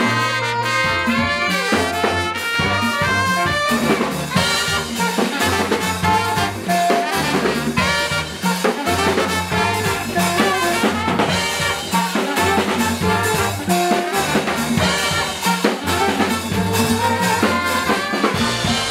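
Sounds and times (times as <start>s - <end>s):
drum kit: 0.0s - 18.9s
saxophone: 0.0s - 18.9s
sousaphone bass line: 0.0s - 18.9s
trumpet: 0.0s - 18.9s.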